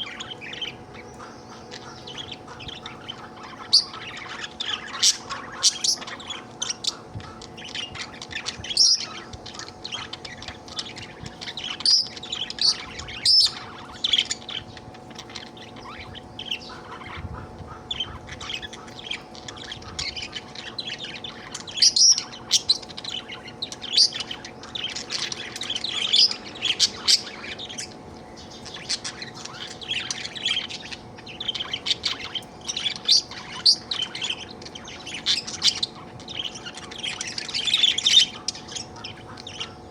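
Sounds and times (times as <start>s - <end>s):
budgerigar chattering and chirping: 0.0s - 39.9s.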